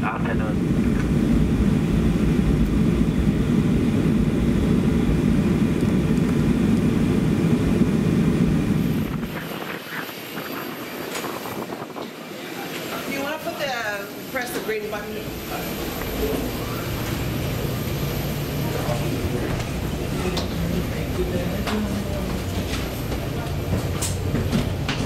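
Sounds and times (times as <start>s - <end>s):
jet engines low rumble: 0.0s - 25.0s.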